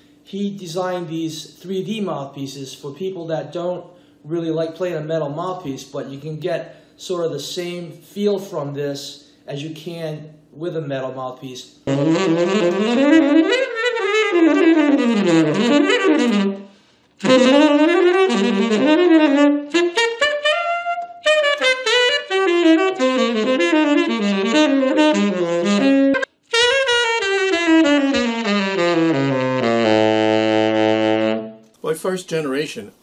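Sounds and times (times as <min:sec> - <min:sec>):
tenor saxophone jazz phrases: 0:00.2 - 0:33.0.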